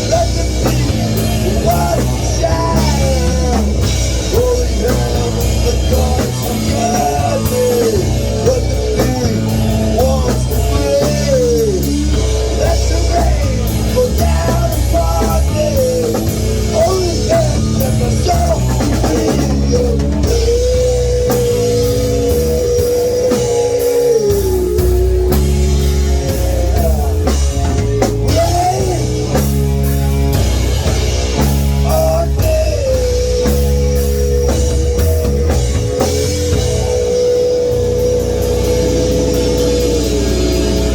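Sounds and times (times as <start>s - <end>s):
bass: 0.0s - 40.9s
bending melody line: 0.0s - 40.9s
drum kit: 0.0s - 40.9s
guitar: 0.0s - 40.9s.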